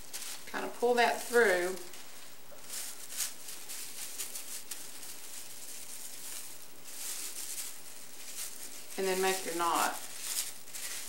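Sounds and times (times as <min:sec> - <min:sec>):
plastic bag strips crinkling: 0:00.0 - 0:11.0.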